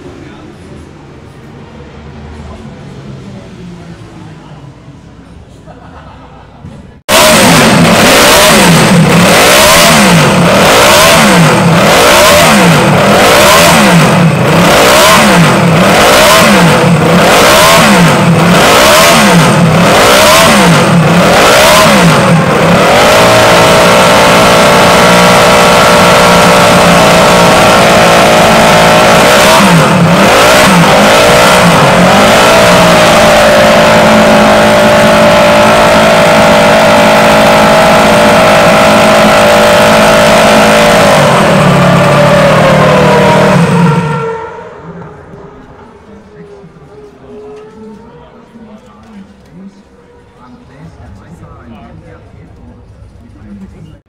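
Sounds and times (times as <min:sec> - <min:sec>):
racing engine revving: 0:07.0 - 0:53.8.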